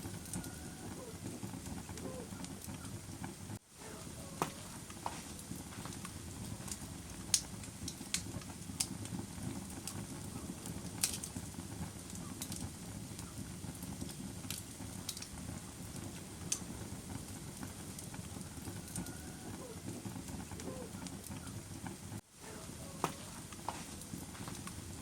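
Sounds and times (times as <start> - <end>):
fire crackling and popping: 0.0 - 25.0
low rumble of burning: 0.0 - 25.0.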